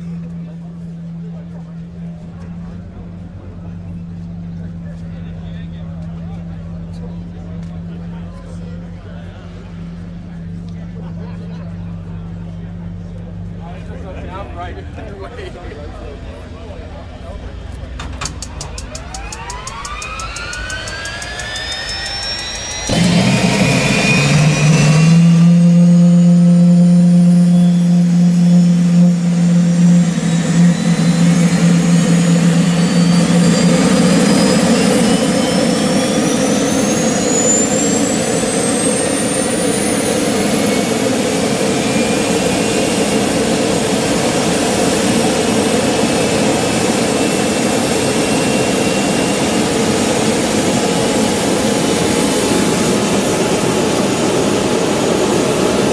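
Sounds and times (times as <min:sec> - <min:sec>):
jet engine whine spooling up: 0:00.0 - 0:55.9
low drone: 0:00.0 - 0:55.9.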